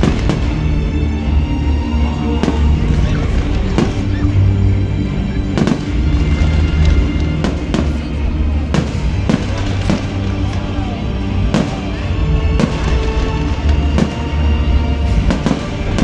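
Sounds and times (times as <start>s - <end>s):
fireworks bangs: 0.0s - 0.9s, 2.4s - 4.4s, 5.4s - 16.0s.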